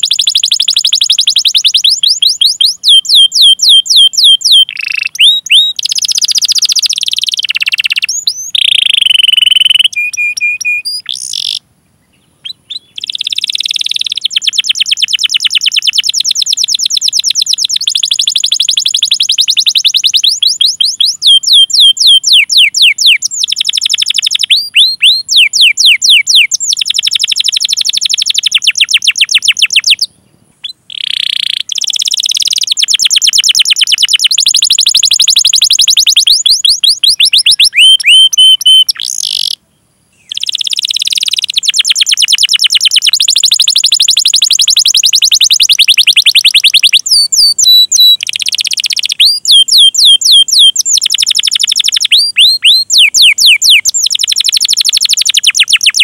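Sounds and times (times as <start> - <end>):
canary singing: 0.0 - 39.6, 40.2 - 56.0.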